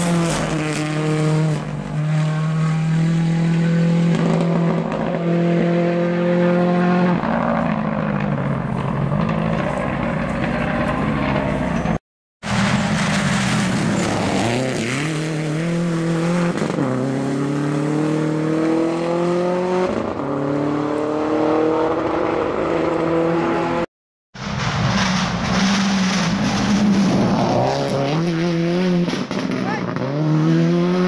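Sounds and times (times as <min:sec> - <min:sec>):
rally car engine at full throttle: 0:00.0 - 0:31.0.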